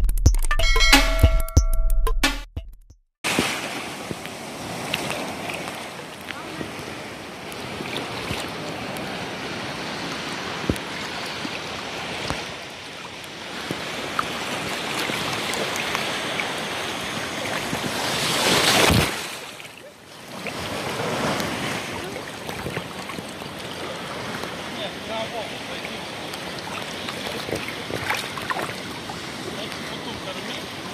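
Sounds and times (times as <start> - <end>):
ocean surf washing: 3.2 - 30.9.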